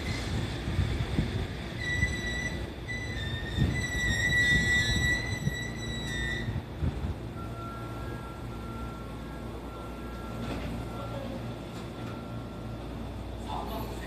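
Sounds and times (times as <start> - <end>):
train low hum: 0.0 - 14.0.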